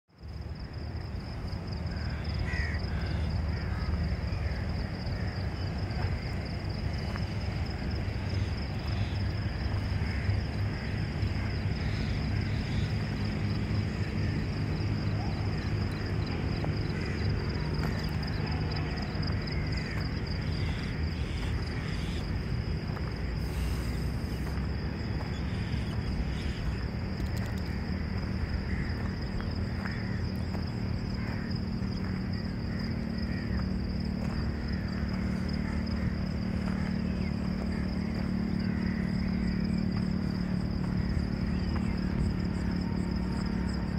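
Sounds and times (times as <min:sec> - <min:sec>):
constant low rumble: 0:00.1 - 0:43.9
high-pitched insect trill: 0:00.1 - 0:43.9.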